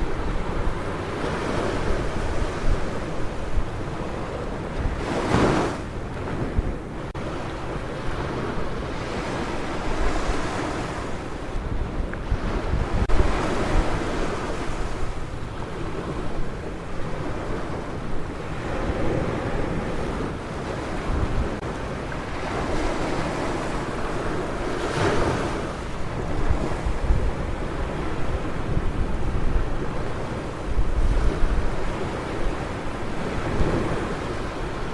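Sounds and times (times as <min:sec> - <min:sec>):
ocean waves breaking: 0:00.0 - 0:34.9
wind buffeting microphone: 0:00.0 - 0:34.9.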